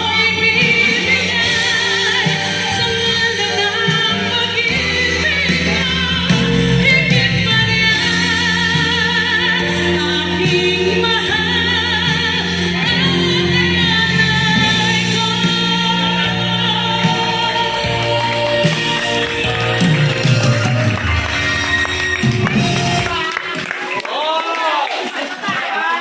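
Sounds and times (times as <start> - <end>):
bass line: 0.0 - 23.4
person singing with vibrato: 0.0 - 23.6.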